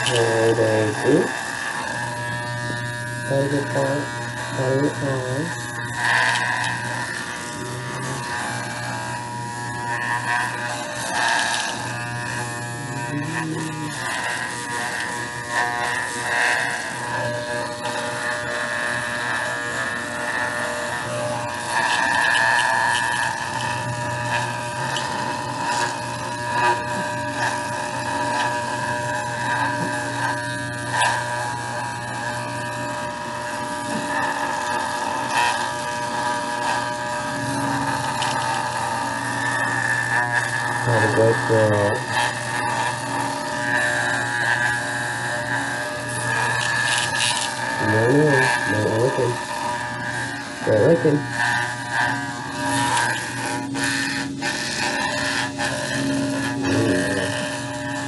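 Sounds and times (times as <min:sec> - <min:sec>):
electric clippers buzzing: 0:00.0 - 0:58.0.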